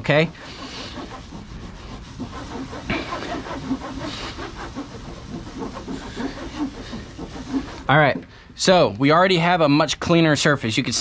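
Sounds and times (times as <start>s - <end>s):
cloth rubbing on textured surface: 0.0s - 11.0s.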